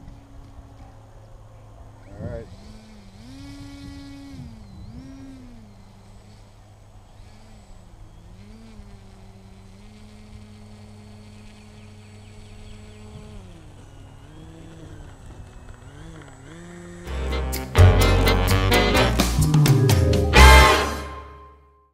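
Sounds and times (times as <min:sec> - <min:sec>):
distant electric motor and propeller buzz: 0:00.0 - 0:19.2.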